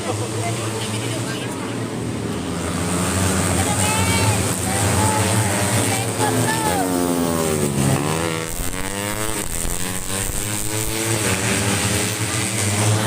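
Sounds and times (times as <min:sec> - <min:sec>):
motorcycles passing at speed: 0:00.0 - 0:13.0.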